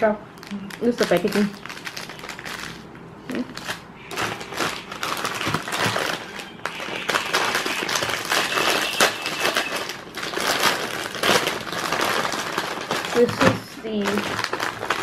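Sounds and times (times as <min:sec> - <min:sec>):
plastic packets crinkling: 0:00.0 - 0:15.0.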